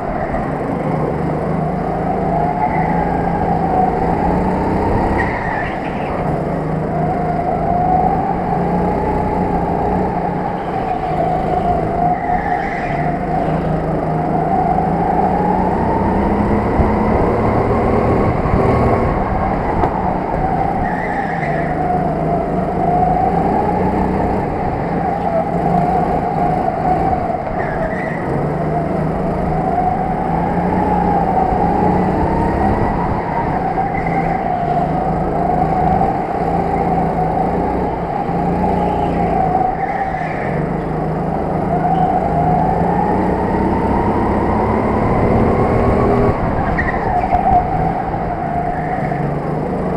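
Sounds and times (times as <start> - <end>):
go-kart engine running hard: 0.0 - 49.9.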